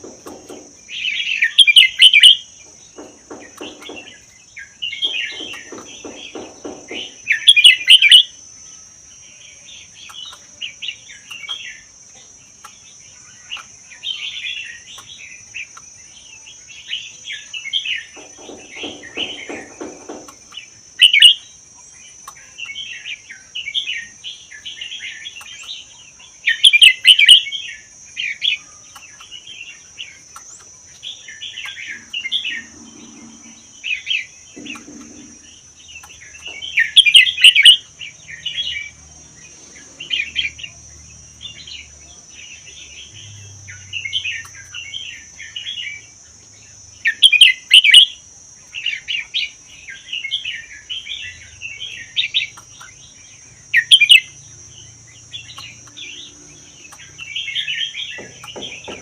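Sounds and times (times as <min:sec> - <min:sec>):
bird singing chirpy notes: 0:00.0 - 0:59.0
steady high-pitched hiss: 0:00.0 - 0:59.0.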